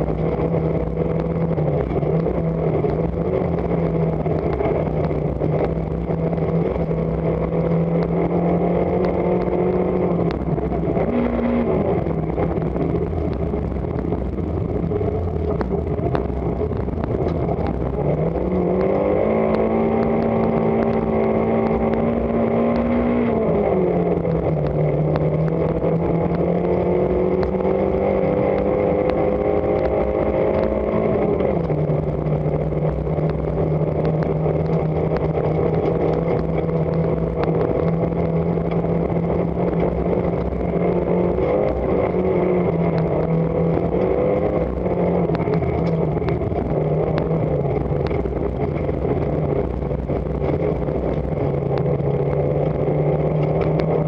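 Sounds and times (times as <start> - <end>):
rally car engine from inside cabin: 0.0 - 54.0
road and tyre noise: 0.0 - 54.0.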